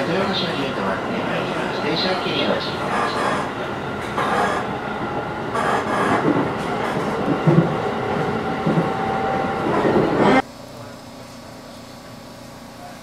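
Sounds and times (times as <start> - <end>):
train wheels rumbling on rail: 0.0 - 10.4.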